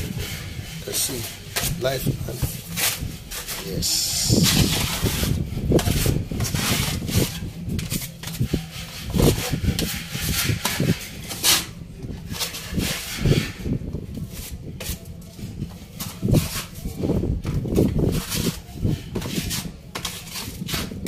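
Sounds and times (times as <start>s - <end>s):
hand scraper scraping a wall: 0.0s - 21.0s.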